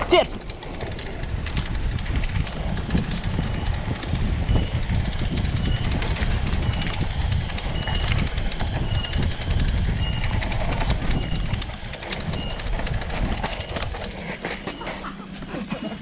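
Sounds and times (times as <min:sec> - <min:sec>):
bike rattling and clicking: 0:00.0 - 0:16.0
bike tyres rumbling on dirt: 0:00.0 - 0:16.0.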